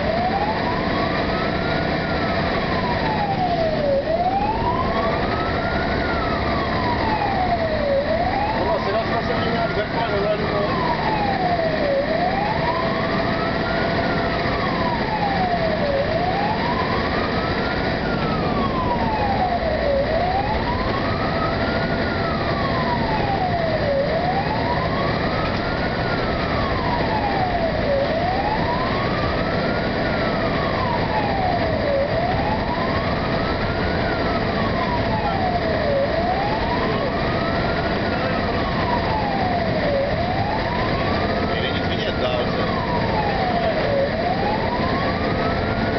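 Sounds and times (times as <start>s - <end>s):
engine and road noise: 0.0s - 45.9s
fire engine siren wailing: 0.0s - 45.9s.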